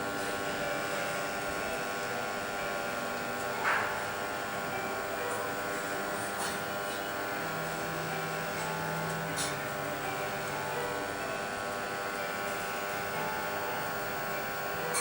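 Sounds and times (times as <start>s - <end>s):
electrical motor hum: 0.0s - 15.0s.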